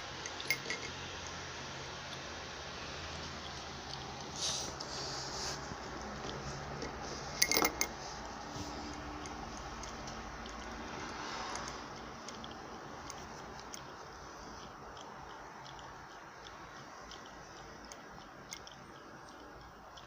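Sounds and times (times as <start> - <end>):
cat lapping water: 1.2 - 7.4, 8.0 - 20.0.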